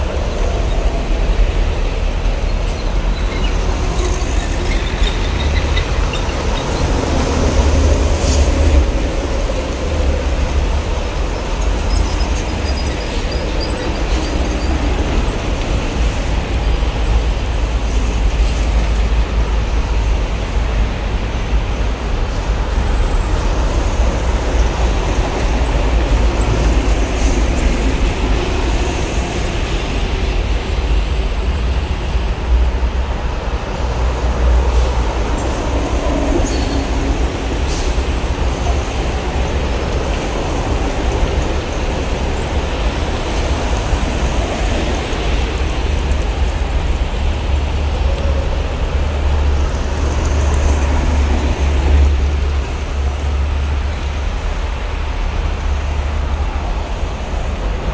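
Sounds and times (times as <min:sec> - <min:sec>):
highway traffic rumble: 0:00.0 - 0:57.9.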